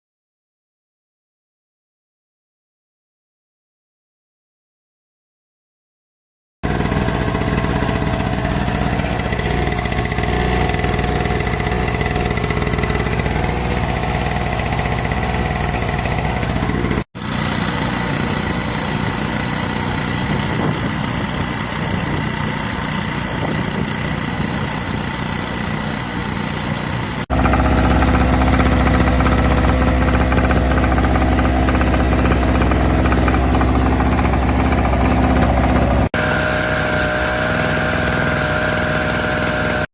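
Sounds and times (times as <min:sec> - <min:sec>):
portable generator running: 0:06.6 - 0:39.9.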